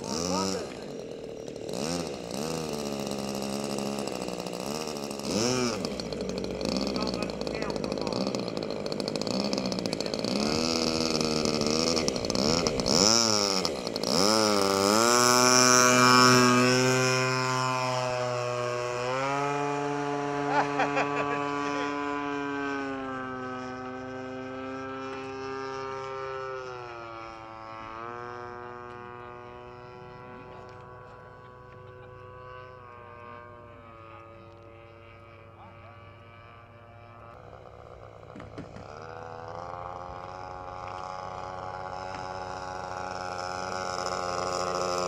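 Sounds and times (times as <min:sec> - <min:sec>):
model airplane engine: 0:00.0 - 0:45.0.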